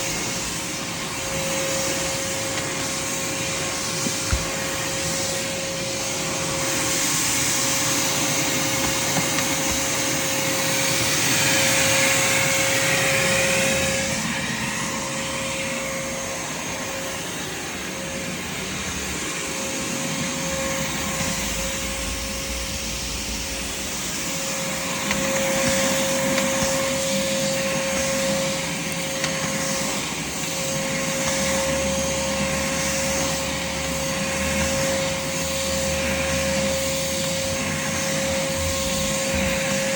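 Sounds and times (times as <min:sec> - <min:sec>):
shop vacuum running: 0:00.0 - 0:39.9.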